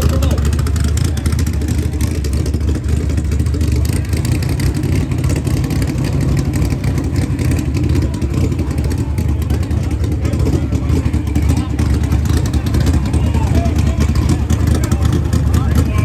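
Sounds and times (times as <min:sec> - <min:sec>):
loud car exhaust: 0:00.0 - 0:16.0.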